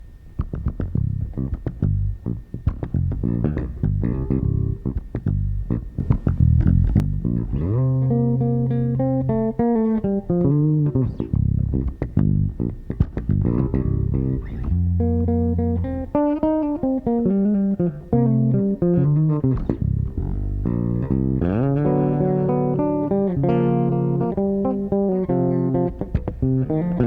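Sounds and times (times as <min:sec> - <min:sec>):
electric bass notes: 0:00.0 - 0:27.0.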